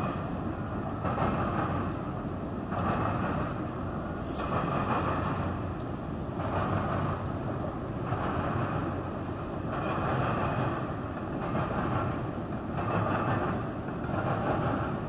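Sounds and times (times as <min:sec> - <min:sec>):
distant freight train rolling: 0:00.0 - 0:15.0.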